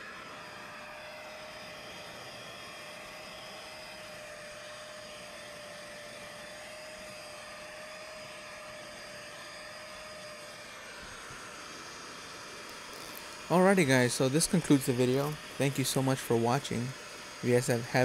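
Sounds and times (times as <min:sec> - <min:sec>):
vacuum motor whining: 0:00.0 - 0:18.0.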